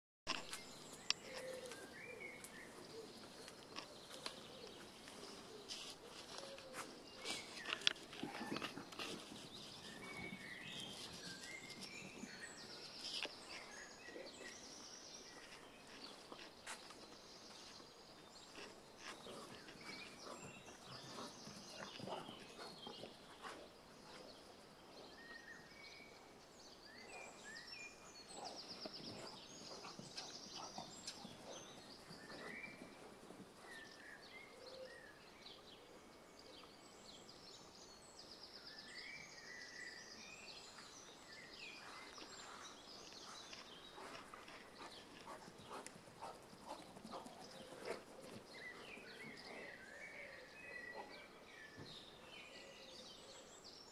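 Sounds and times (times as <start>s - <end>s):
birds singing and chirping: 0.3s - 53.9s
faint outdoor background noise: 0.3s - 53.9s.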